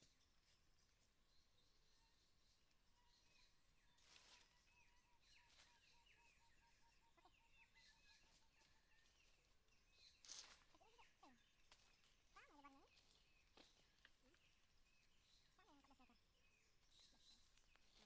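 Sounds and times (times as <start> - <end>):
faint bird calls: 3.0 - 18.0.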